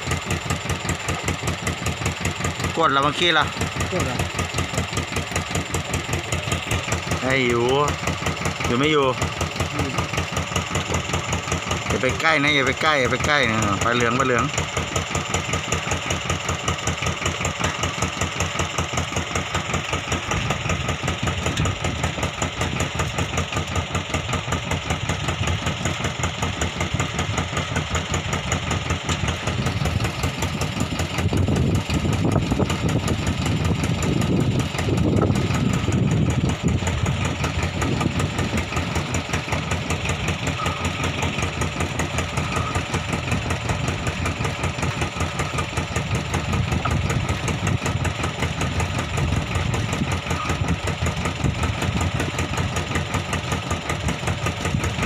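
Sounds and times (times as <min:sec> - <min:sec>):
boat engine idling: 0:00.0 - 0:55.0.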